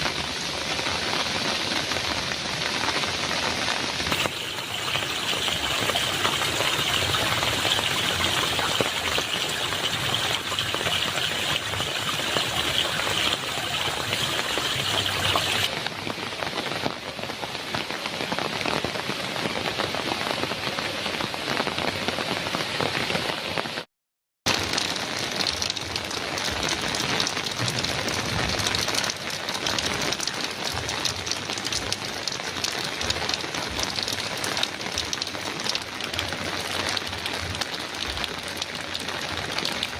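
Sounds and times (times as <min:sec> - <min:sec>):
heavy rain on a metal roof: 0:00.0 - 0:23.9, 0:24.5 - 0:39.9.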